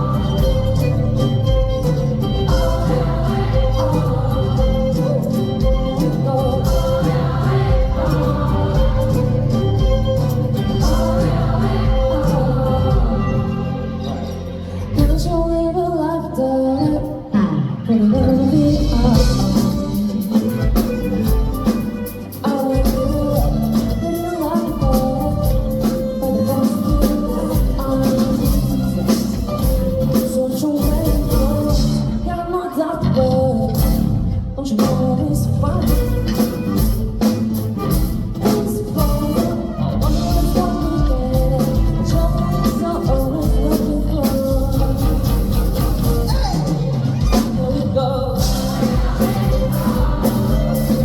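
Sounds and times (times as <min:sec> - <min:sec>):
live band playing: 0:00.0 - 0:51.0
person singing lead vocal: 0:00.0 - 0:51.0.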